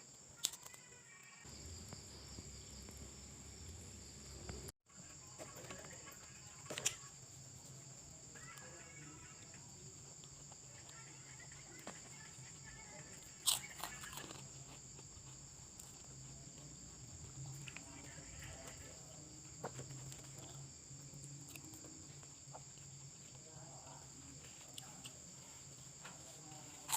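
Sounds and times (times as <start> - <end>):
chirping insects: 0.0 - 26.9.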